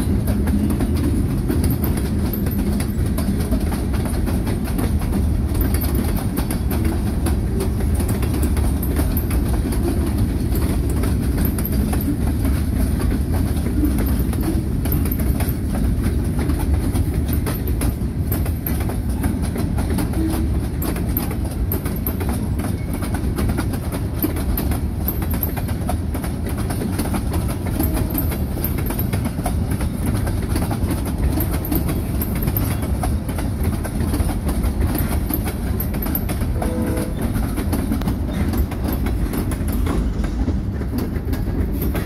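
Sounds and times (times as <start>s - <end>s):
wheels clickety-clack on rail joints: 0.0s - 42.0s.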